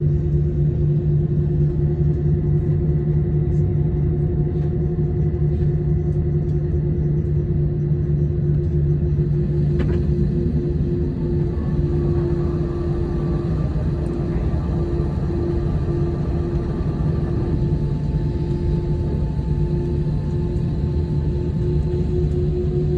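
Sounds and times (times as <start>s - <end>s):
jet engines droning: 0.0s - 22.9s.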